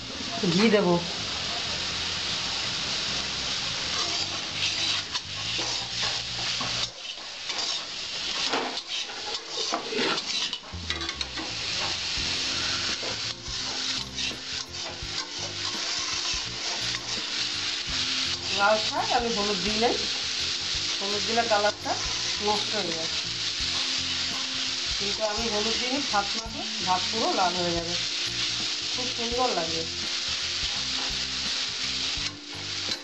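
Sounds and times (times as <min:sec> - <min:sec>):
spinach sizzling in a pan: 0:00.0 - 0:33.0
metal spatula scraping a pan: 0:03.8 - 0:33.0.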